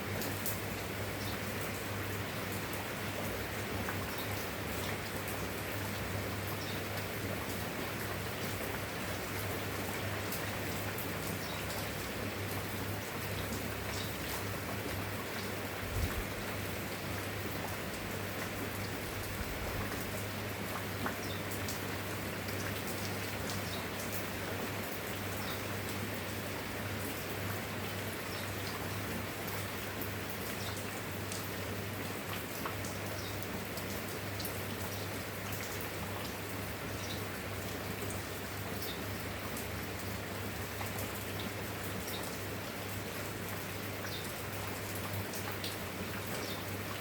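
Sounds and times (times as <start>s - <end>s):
rain falling: 0.0s - 47.0s.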